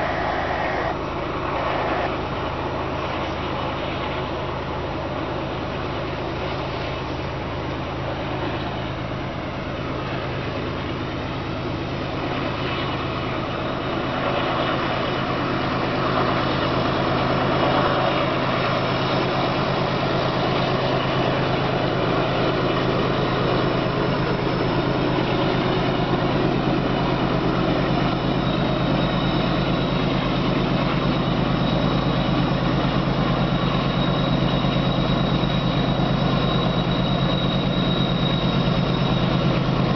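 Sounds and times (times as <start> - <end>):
distant locomotive engine drone: 0.0 - 39.9.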